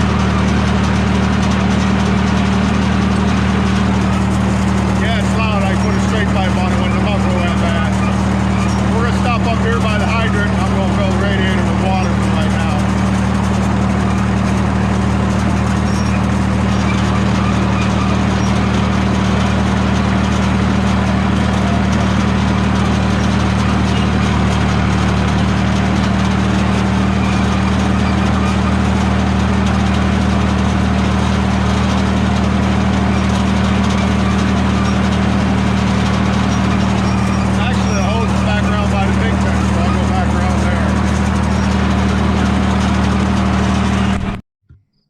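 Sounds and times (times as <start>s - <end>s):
bulldozer engine running: 0.0s - 44.4s.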